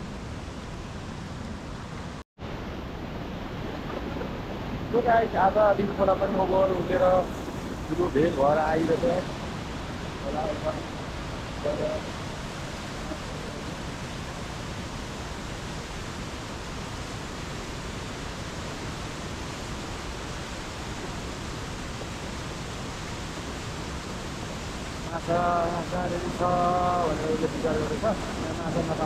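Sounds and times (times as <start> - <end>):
river rushing over boulders: 0.0 - 29.0.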